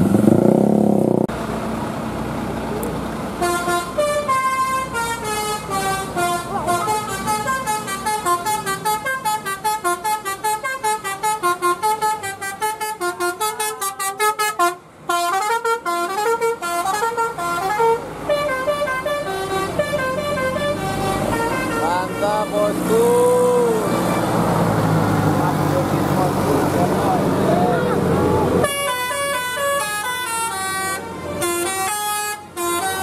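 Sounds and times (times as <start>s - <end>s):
melodic bus horn tune: 3.3s - 26.0s, 26.7s - 33.0s.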